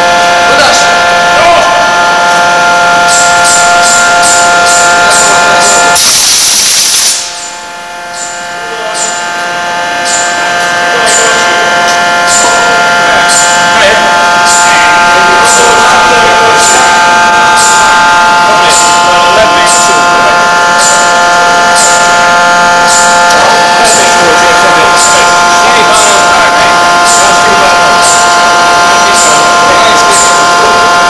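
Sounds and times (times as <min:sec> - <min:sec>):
forging machine multi-tone whine: 0:00.0 - 0:31.0.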